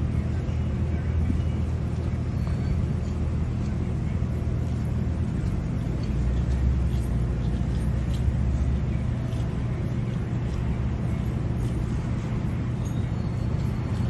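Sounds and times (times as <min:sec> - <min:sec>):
low rumble of road vehicles: 0:00.0 - 0:14.0.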